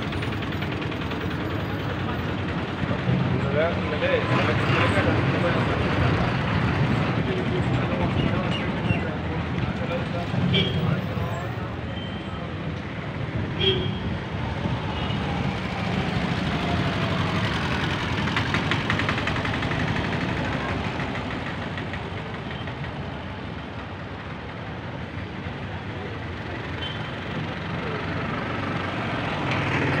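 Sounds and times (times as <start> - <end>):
road traffic engines passing: 0.0 - 30.0.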